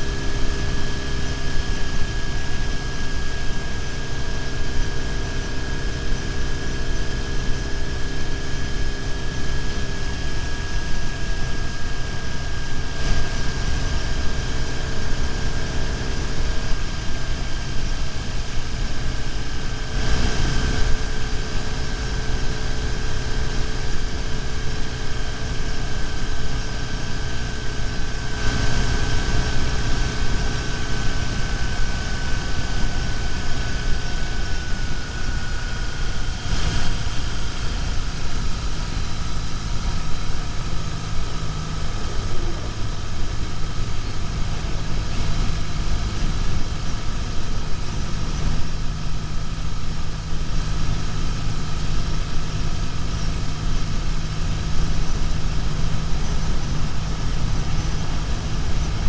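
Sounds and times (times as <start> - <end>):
high whine: 0.0 - 59.0
road and wind noise: 0.0 - 59.0.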